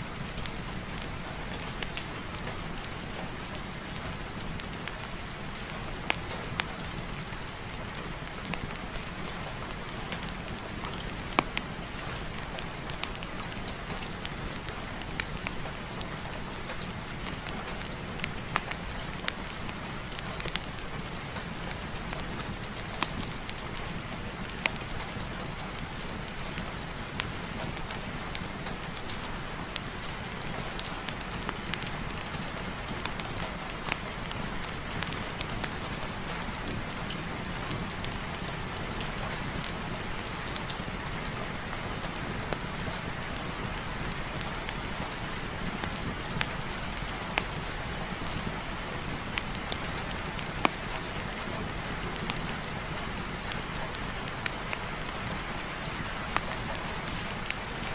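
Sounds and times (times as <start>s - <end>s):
fireplace fire crackling: 0.0s - 57.9s
steady rain falling: 0.0s - 57.9s.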